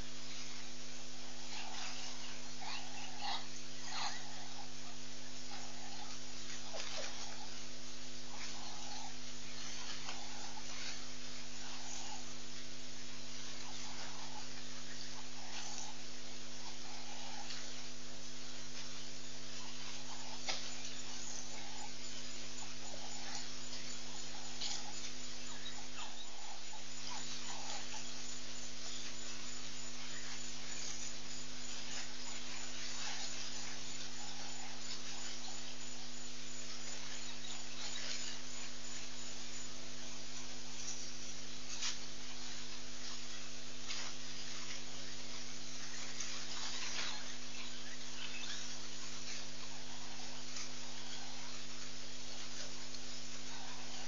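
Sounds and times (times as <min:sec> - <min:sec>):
electrical hum and hiss: 0:00.0 - 0:54.0.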